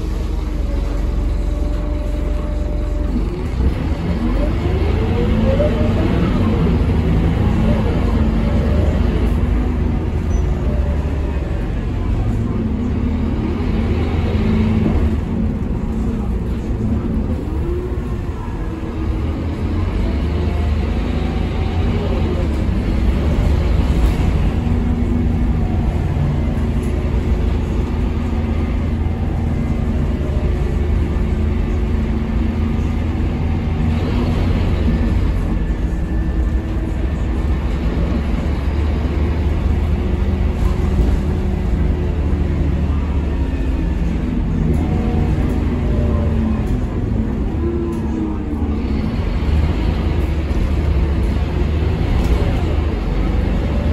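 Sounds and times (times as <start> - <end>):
bus diesel engine rumble: 0.0 - 53.9
road noise: 0.0 - 53.9.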